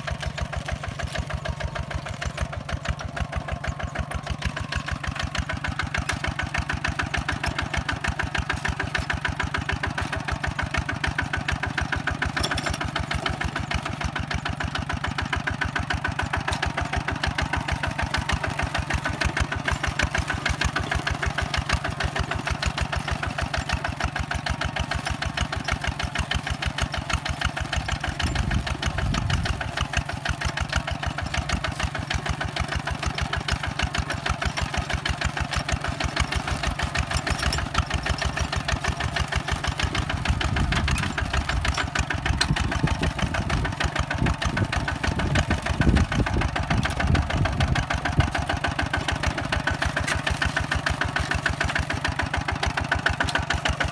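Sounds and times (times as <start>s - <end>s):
diesel engine chugging: 0.0s - 53.9s.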